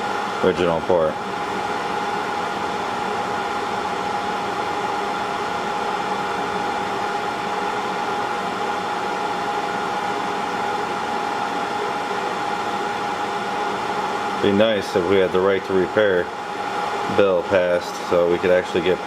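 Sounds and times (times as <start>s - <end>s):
electric fan whirring: 0.0s - 19.0s.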